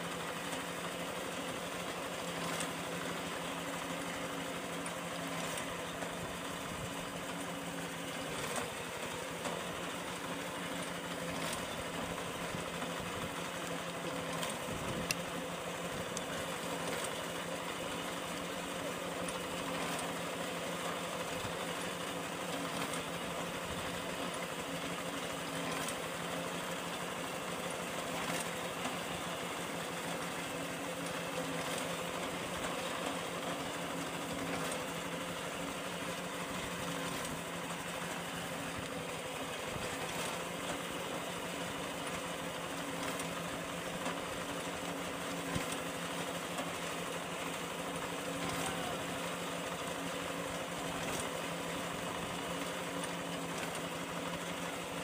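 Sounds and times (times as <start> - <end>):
small engine humming: 0.0 - 55.0.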